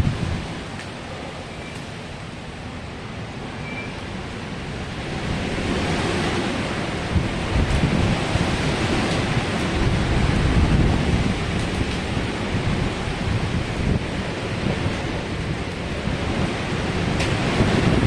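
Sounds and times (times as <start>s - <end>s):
wind buffeting microphone: 0.0s - 1.2s, 4.2s - 18.0s
strong wind gusting: 0.0s - 18.0s.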